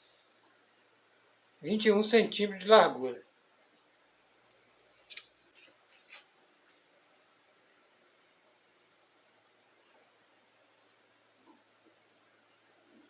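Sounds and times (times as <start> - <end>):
insect chirping trill: 0.0 - 13.0.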